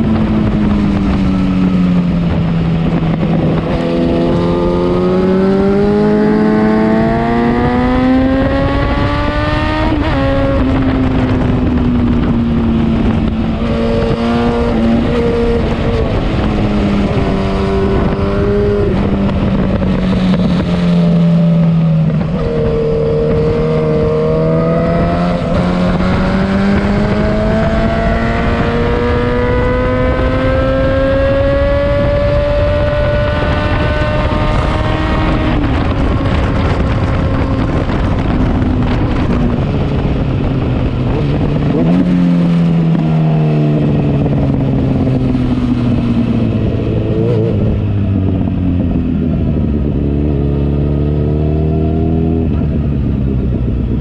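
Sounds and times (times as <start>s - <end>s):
motorcycle engine revving: 0.0s - 54.0s
wind on microphone: 0.0s - 54.0s.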